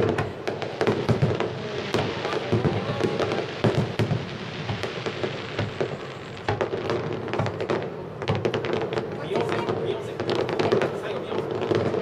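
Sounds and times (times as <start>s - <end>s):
fireworks bangs and crackle: 0.0s - 12.0s.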